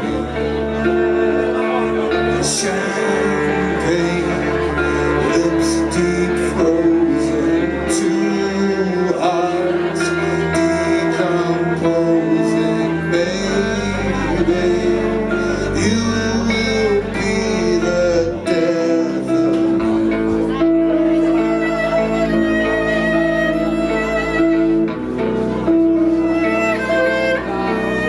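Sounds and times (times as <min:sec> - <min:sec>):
bass line: 0:00.0 - 0:28.0
guitar and strings sustained notes: 0:00.0 - 0:28.0.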